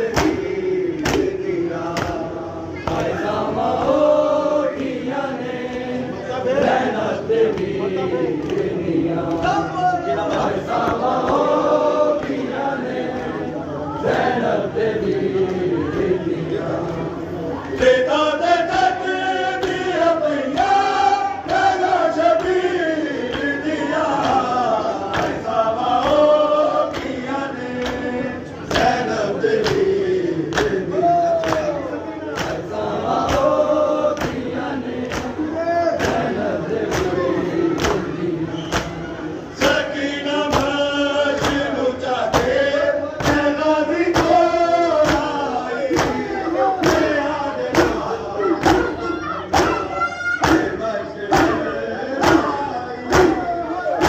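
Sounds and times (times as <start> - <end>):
crowd of men chanting: 0.0 - 54.0.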